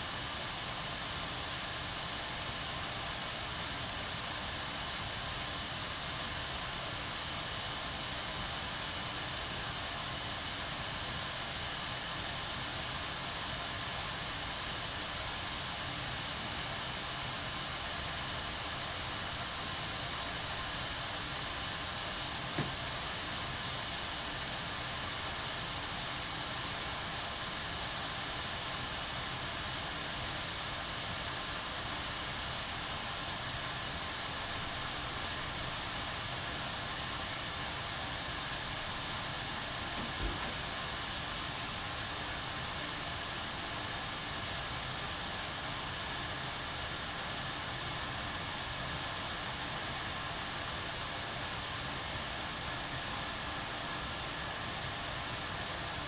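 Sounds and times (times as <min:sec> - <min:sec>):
kettle boiling: 0:00.0 - 0:56.0.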